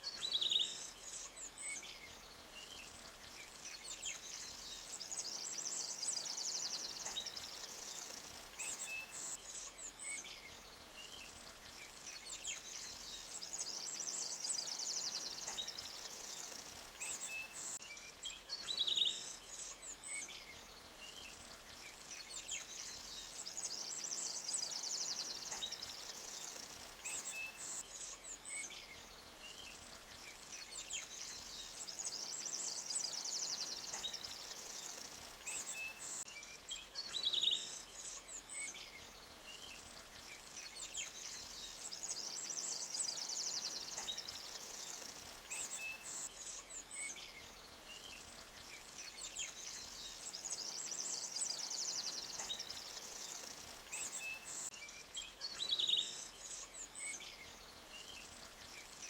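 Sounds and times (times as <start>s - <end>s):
faint steady noise wash: 0.0s - 59.0s
small birds chirping and trilling: 0.0s - 59.0s.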